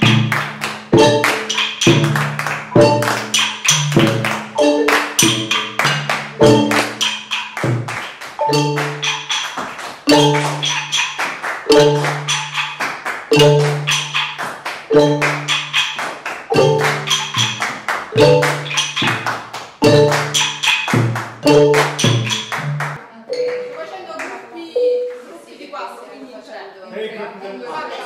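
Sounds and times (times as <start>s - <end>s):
xylophone notes: 0.0s - 24.0s, 24.7s - 25.3s
hand claps: 0.0s - 24.4s.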